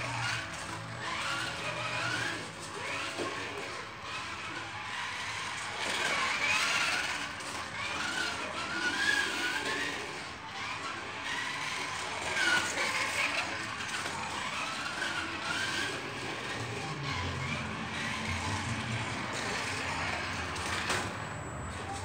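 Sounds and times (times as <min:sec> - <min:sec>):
toy race car engine whining: 0:00.0 - 0:22.0.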